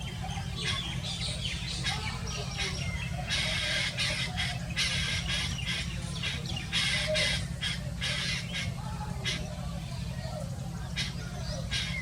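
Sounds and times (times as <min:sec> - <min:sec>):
bird squawking calls: 0:00.0 - 0:12.0.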